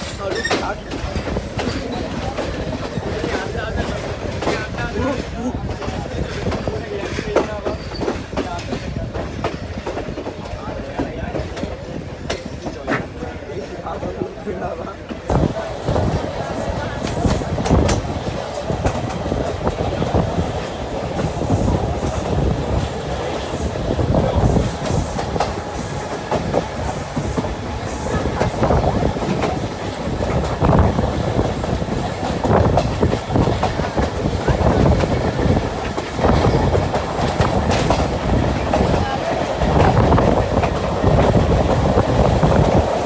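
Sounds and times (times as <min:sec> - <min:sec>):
wheels clacking over rail joints: 0:00.0 - 0:14.1, 0:14.9 - 0:43.0
train rumbling on rails: 0:00.0 - 0:43.0.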